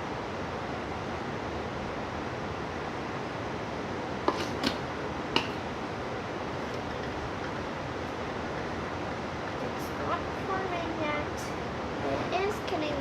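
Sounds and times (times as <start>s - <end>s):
fan-like hiss: 0.0s - 13.0s.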